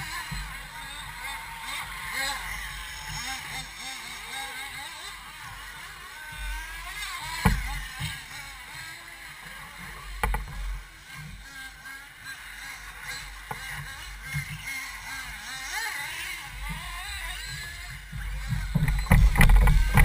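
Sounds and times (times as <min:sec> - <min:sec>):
rc car motors whining: 0:00.0 - 0:20.0.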